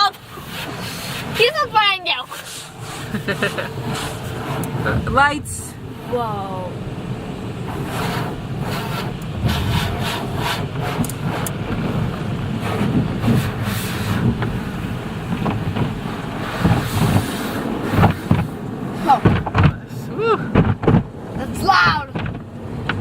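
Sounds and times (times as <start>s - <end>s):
car wash slaps and thuds: 0.0s - 23.0s
water rushing on car body: 0.0s - 23.0s.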